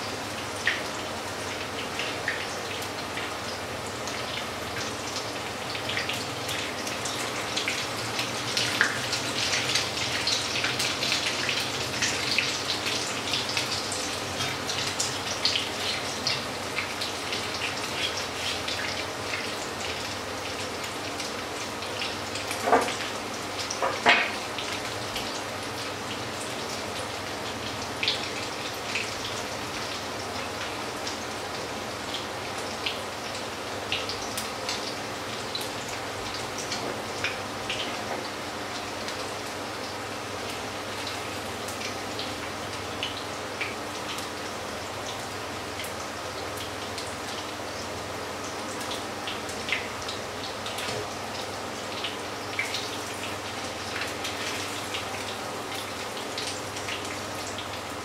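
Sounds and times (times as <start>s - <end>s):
fritters sizzling in hot oil: 0.0s - 58.0s.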